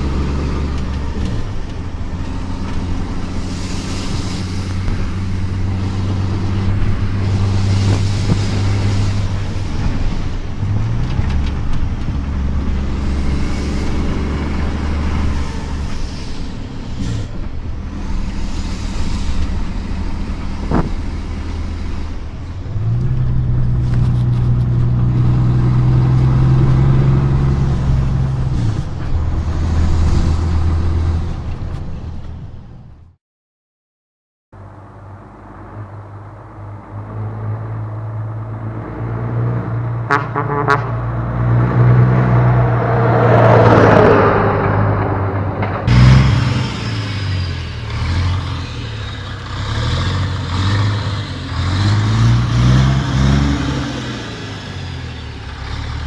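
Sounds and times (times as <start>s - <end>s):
diesel truck engine under load: 0.0s - 33.2s, 34.6s - 56.0s.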